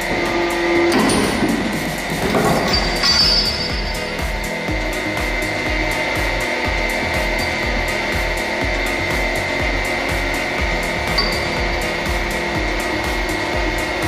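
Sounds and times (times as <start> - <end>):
hydraulic press grinding: 0.0 - 14.0
steady beat: 0.0 - 14.0.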